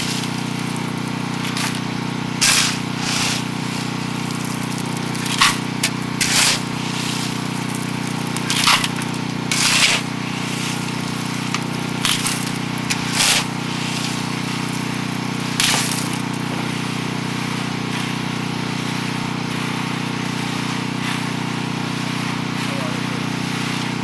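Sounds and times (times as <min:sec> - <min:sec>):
low machine hum: 0:00.0 - 0:24.0
sharp scraping or splashing: 0:00.0 - 0:24.0.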